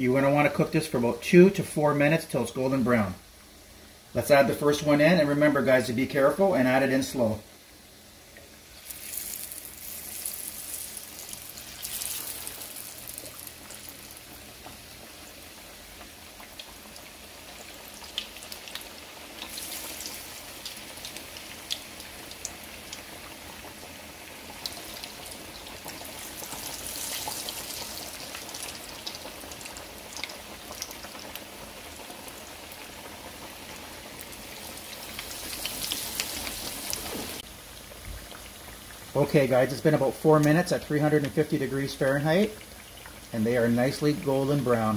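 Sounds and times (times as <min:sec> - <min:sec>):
fish deep-frying in oil: 0:04.0 - 0:44.9.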